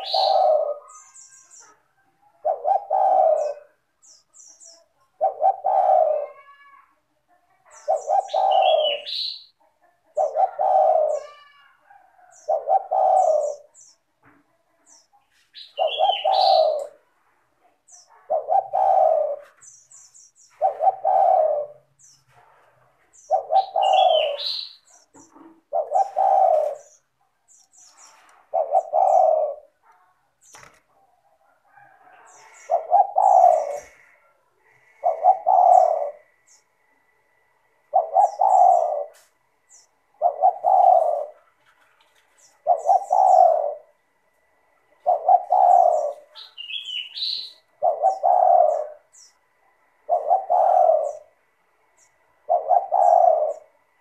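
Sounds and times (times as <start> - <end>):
dove cooing: 0.0 - 6.6, 7.5 - 14.0, 14.9 - 17.1, 17.8 - 54.0
small birds chirping: 0.0 - 37.0, 37.8 - 54.0.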